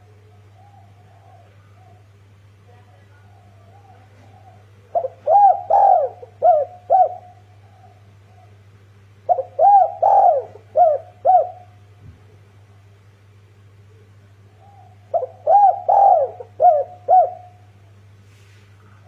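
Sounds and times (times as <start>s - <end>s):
dove cooing: 0.0s - 12.5s, 13.8s - 17.9s
steady low hum: 0.0s - 19.0s.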